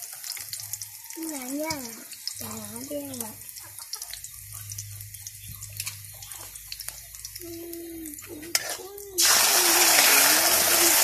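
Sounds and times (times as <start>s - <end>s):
garlic and onion crackling in pan: 0.0s - 11.0s
loud sizzle in hot oil: 0.0s - 11.0s.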